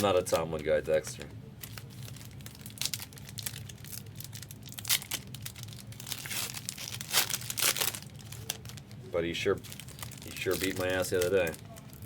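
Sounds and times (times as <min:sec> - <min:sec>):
foil wrappers tearing and crinkling: 0:01.6 - 0:12.0.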